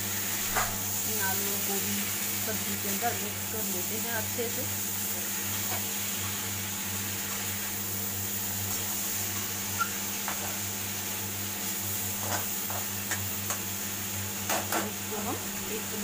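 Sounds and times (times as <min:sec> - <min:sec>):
vegetables frying sizzle: 0:00.0 - 0:16.0.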